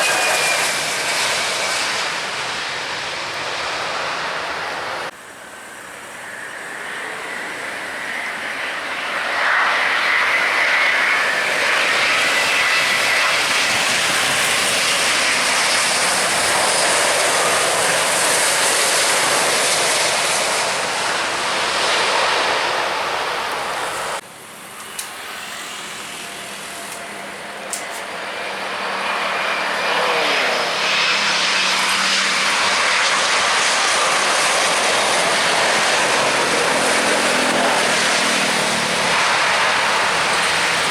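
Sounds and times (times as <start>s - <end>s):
aircraft engine noise falling pitch: 0.0s - 5.1s, 6.0s - 40.9s
airliner engines passing: 0.0s - 40.9s
steady engine whine: 0.0s - 40.9s.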